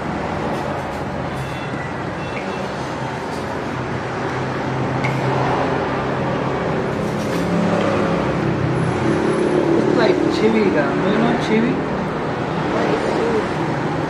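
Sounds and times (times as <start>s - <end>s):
car engines passing: 0.0s - 14.0s
road traffic noise: 0.0s - 14.0s
motorbike engines passing: 1.9s - 14.0s.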